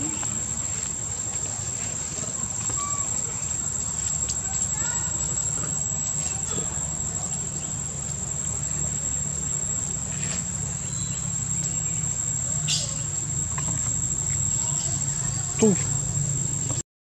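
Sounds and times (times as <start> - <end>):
insects droning: 0.0 - 16.8.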